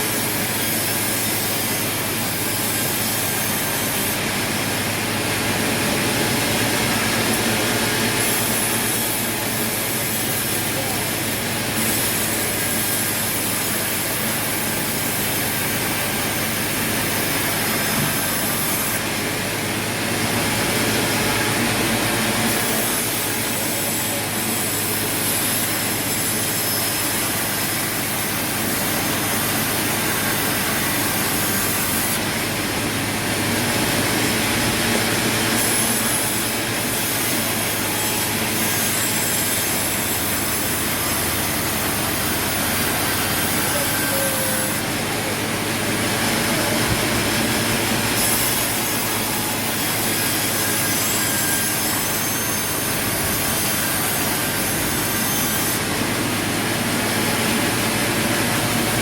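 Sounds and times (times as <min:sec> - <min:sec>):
saw cutting through timber: 0:00.0 - 0:59.0
sawmill machinery running: 0:00.0 - 0:59.0.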